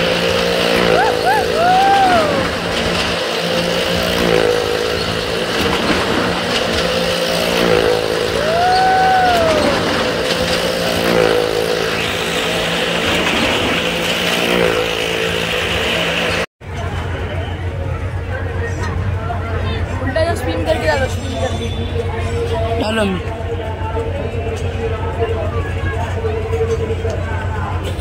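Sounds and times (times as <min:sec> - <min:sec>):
engines running hard: 0:00.0 - 0:28.0.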